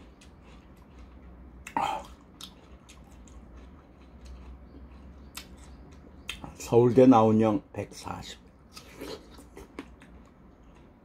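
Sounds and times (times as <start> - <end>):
person chewing watermelon: 0.0 - 7.1, 8.6 - 11.0.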